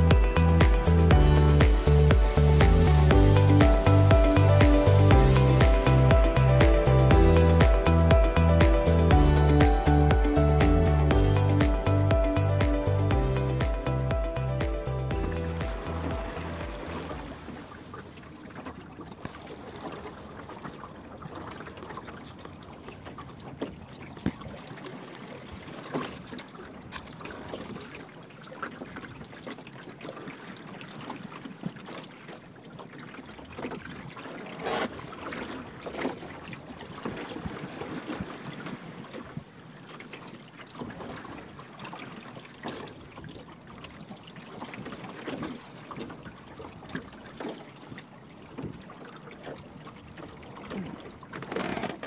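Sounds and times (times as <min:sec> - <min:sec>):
waves slapping: 0:00.0 - 0:28.2, 0:33.9 - 0:52.0
water lapping against boat hull: 0:00.0 - 0:52.0.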